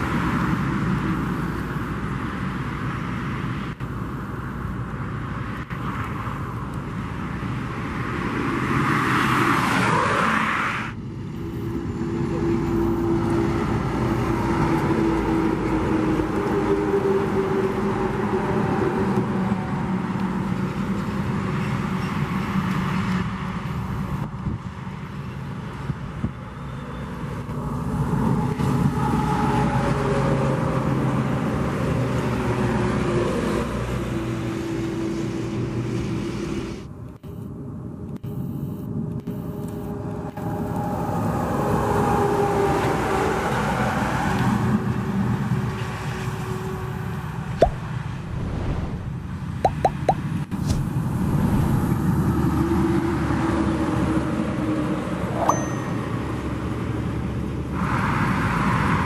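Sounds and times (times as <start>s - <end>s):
diesel trucks driving past: 0.0s - 37.0s, 38.9s - 59.0s.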